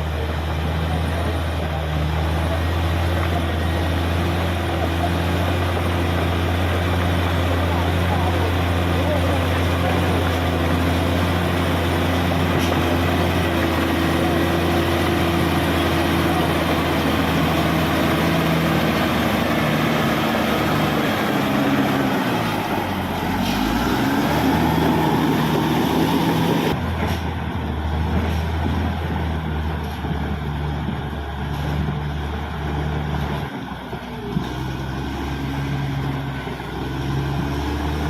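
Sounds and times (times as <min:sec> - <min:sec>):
bulldozer diesel engine under load: 0:00.0 - 0:38.0.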